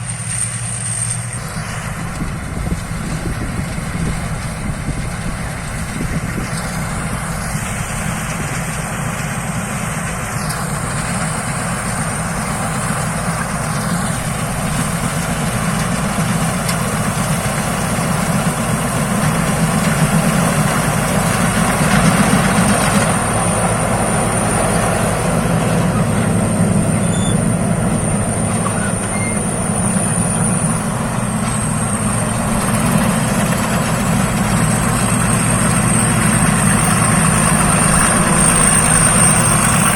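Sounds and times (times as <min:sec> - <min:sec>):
combine harvester engine running: 0:00.0 - 0:39.9
high whine: 0:00.0 - 0:39.9.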